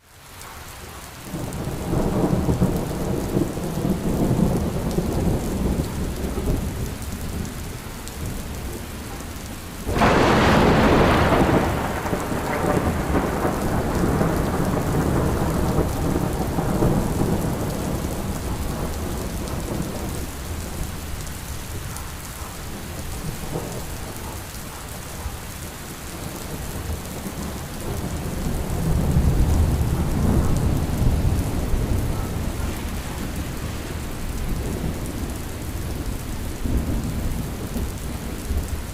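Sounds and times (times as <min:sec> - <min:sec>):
steady rain: 0:00.0 - 0:38.9
thunder rumbling: 0:01.3 - 0:38.9.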